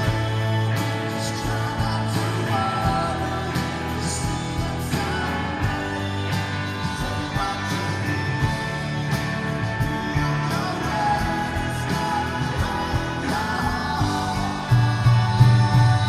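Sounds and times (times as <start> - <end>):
bass guitar: 0.0 - 16.0
drums keeping a steady beat: 0.0 - 16.0
electric guitars: 0.0 - 16.0.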